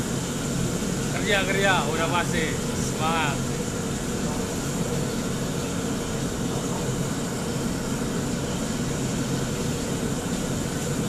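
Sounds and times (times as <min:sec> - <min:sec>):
gas burners and extractor rushing: 0:00.0 - 0:11.0.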